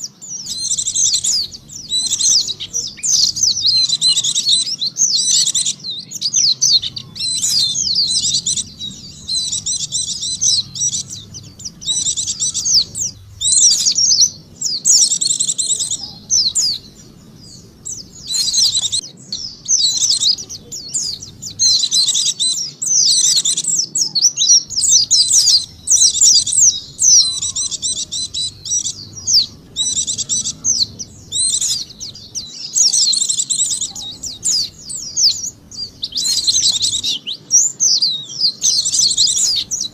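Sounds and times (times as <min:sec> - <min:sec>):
white-eye twittering chirps: 0:00.0 - 0:39.9.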